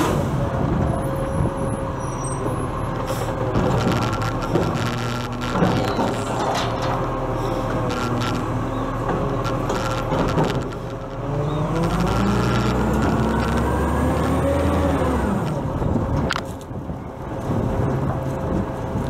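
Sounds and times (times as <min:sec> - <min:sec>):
garbage truck engine revving: 0:00.0 - 0:15.8.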